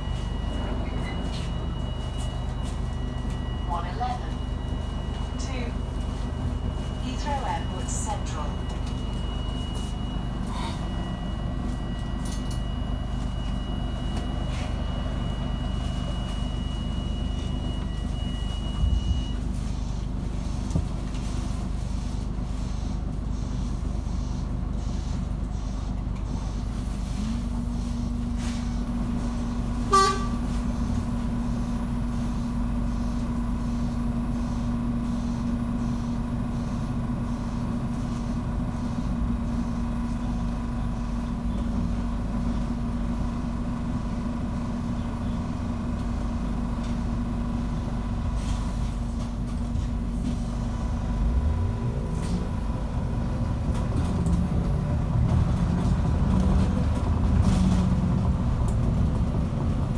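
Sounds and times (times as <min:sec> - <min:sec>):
bus drive drone: 0:00.0 - 0:59.9.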